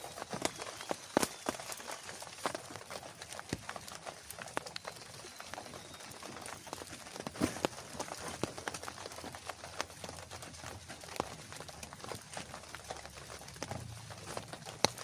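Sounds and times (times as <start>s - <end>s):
rain drops tapping: 0.0s - 15.0s.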